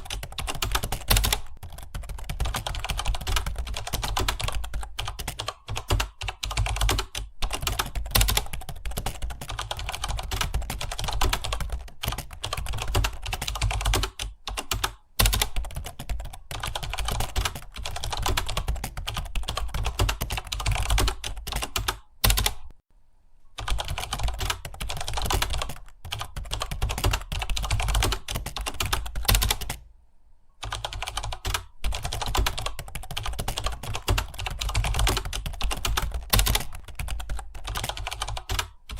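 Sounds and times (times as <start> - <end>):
fast typing on keyboard: 0.0 - 22.7, 23.6 - 29.8, 30.6 - 38.9.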